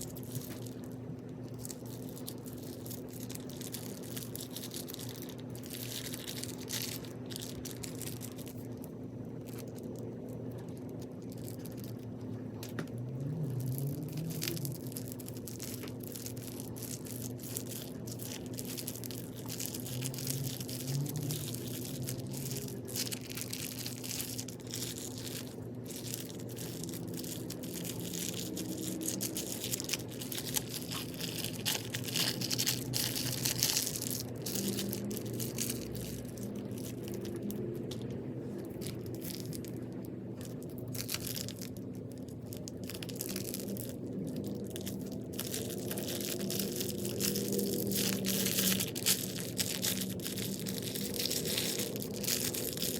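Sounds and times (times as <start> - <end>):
crunchy slime squeezed by hand: 0.0 - 52.9.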